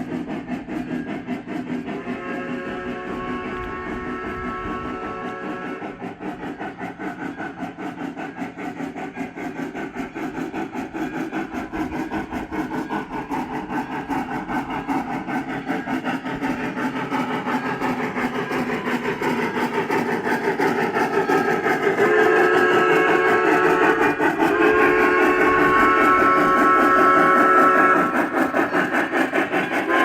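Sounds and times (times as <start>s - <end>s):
model locomotive steam chuffs: 0.0s - 30.0s.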